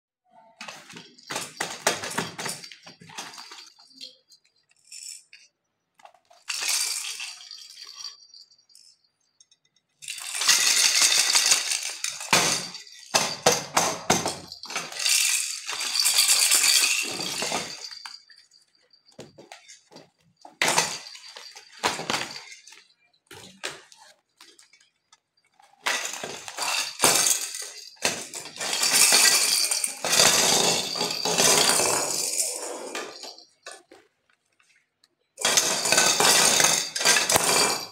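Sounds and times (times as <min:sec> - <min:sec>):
plastic rattles clinking: 0:00.6 - 0:37.9.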